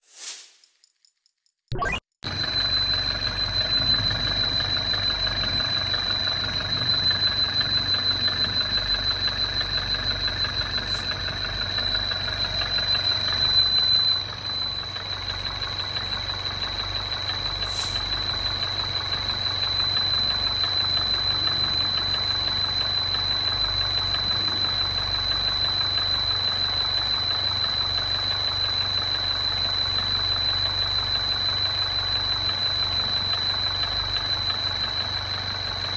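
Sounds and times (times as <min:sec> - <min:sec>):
high-pitched whine: 0:01.7 - 0:35.9
car engine idling: 0:02.2 - 0:35.9.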